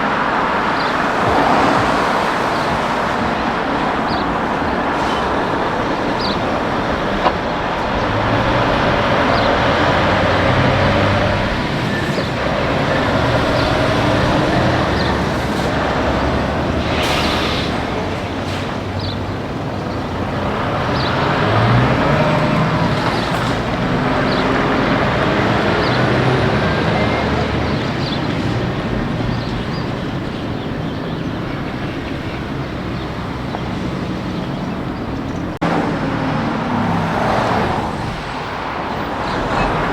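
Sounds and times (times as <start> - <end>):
trucks passing on a highway: 0.0 - 39.9
tyre and road noise: 0.0 - 39.9.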